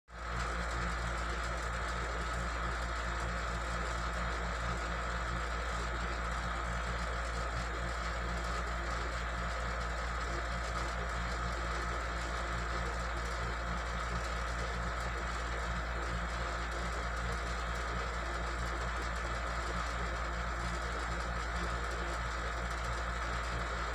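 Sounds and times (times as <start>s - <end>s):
steady mechanical hum: 0.1s - 23.9s.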